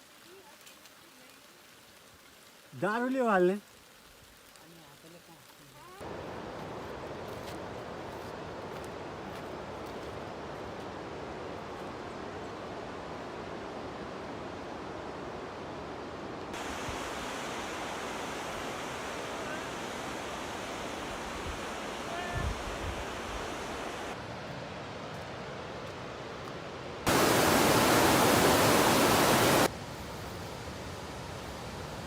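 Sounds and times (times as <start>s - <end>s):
rain: 0.0s - 32.0s.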